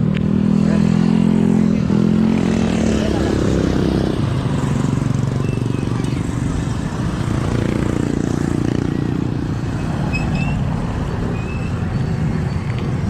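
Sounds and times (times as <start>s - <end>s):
road traffic rumble: 0.0s - 13.0s
vehicle engine hum: 0.0s - 13.0s.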